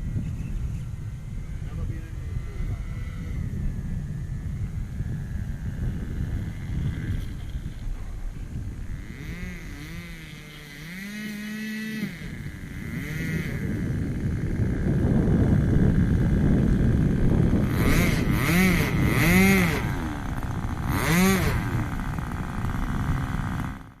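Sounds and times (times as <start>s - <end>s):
model aircraft engine running: 0.0s - 24.0s.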